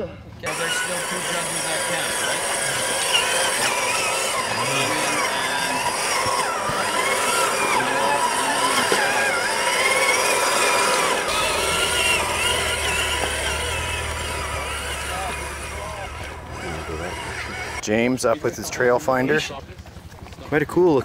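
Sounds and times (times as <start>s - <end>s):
toy truck electric motor whining: 0.4s - 17.8s.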